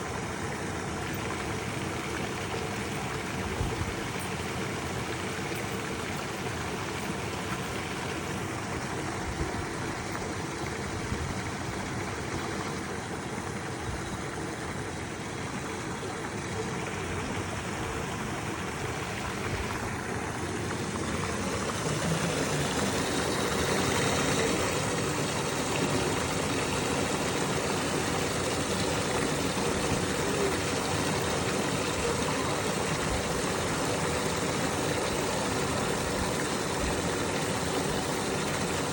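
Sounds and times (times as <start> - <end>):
water running into a basin: 0.8 - 38.9.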